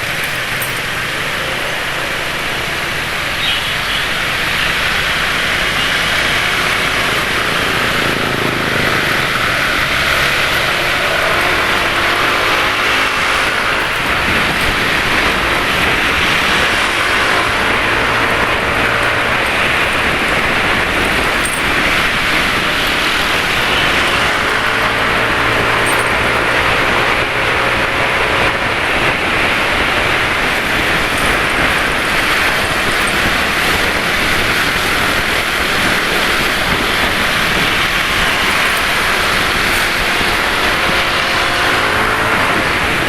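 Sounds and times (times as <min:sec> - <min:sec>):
motorcycle engines running: 0:00.0 - 0:43.0
tyre noise: 0:06.0 - 0:43.0
wind rush: 0:07.1 - 0:43.0.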